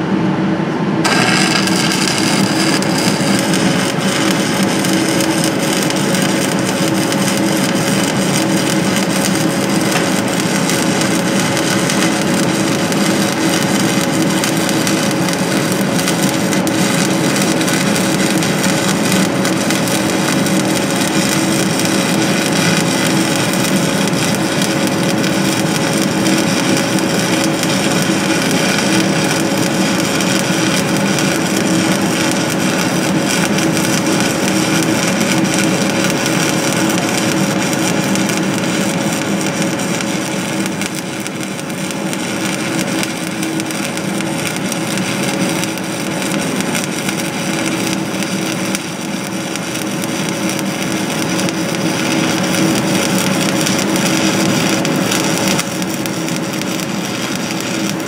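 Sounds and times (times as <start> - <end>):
steady hum: 0.0 - 58.0
welding arc crackling: 1.0 - 58.0.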